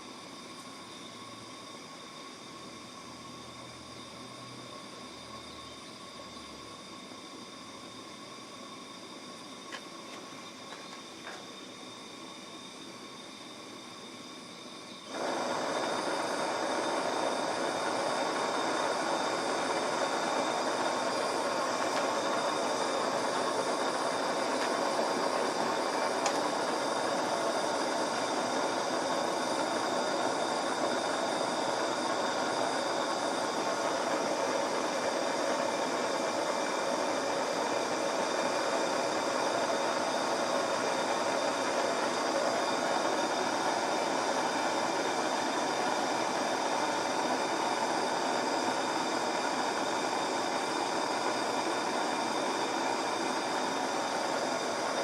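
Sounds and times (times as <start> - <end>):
steady mechanical whir: 0.0 - 55.0.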